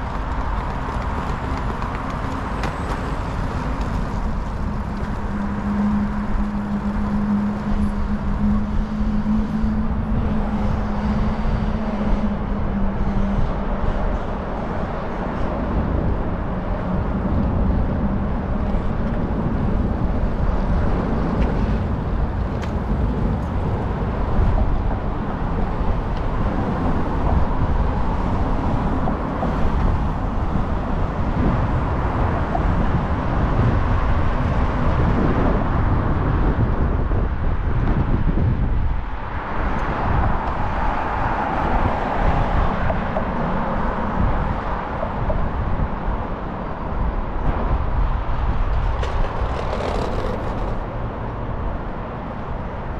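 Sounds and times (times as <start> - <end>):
road traffic rumble: 0.0 - 52.9.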